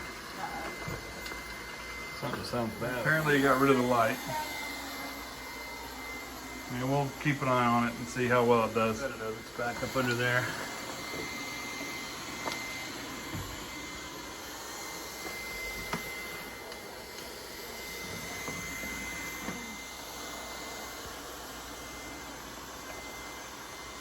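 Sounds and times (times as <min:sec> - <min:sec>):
robot vacuum whirring: 0:00.0 - 0:24.0.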